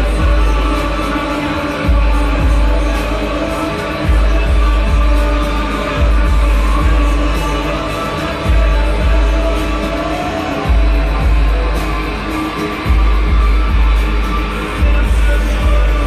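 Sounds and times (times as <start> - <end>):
deep bass pulse: 0.0 - 1.0, 1.8 - 3.2, 4.0 - 7.8, 8.4 - 10.0, 10.6 - 16.0
droning music tones: 0.0 - 16.0.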